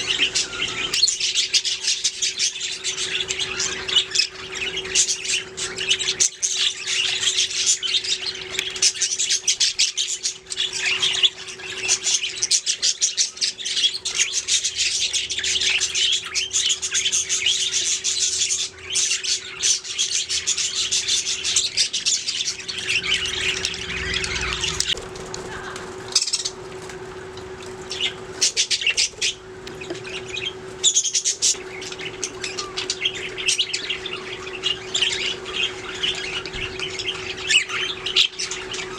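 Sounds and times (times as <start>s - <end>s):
budgies chirping and squawking: 0.0s - 38.9s
steady low hum: 0.0s - 38.9s.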